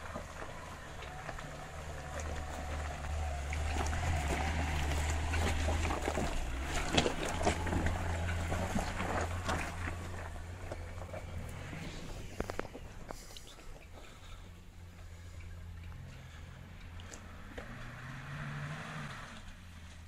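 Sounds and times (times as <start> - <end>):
stones crunching under tyres: 0.0 - 18.2
vehicle engine at low revs: 0.0 - 20.0.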